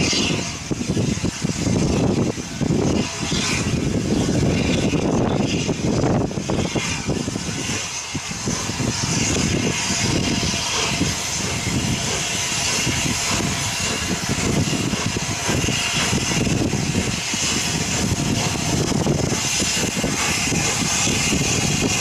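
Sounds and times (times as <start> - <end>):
steam hissing: 0.0 - 22.0
steam locomotive exhaust beats: 0.0 - 22.0.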